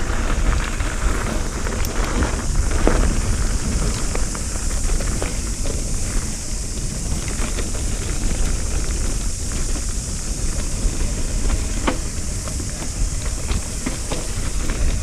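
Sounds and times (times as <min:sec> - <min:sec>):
bike clicking and rattling: 0:00.0 - 0:15.0
bike tyres rumbling on dirt: 0:00.0 - 0:15.0
wind on microphone: 0:00.0 - 0:15.0.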